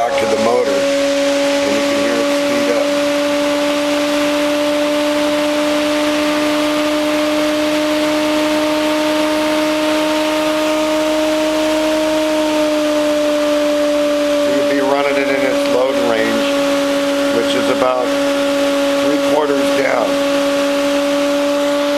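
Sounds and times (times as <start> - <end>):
electric motor humming: 0.0 - 21.9.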